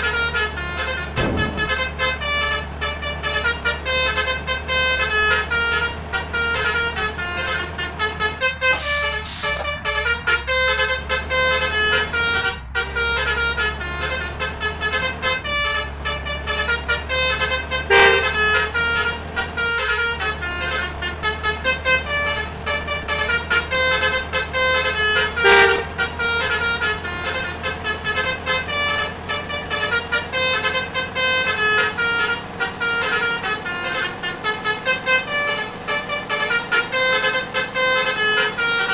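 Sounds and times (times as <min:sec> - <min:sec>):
engine drone: 0:00.0 - 0:38.9
multi-tone air horns playing melodies: 0:00.0 - 0:38.9.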